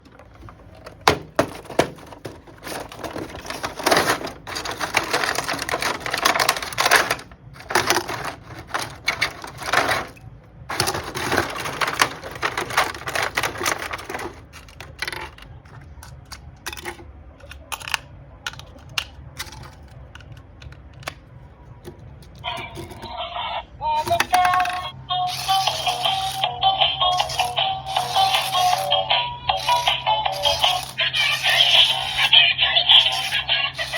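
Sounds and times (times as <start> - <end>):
crinkling plastic and cardboard: 0.0 - 17.7, 18.5 - 21.2, 24.0 - 26.4, 27.1 - 33.9.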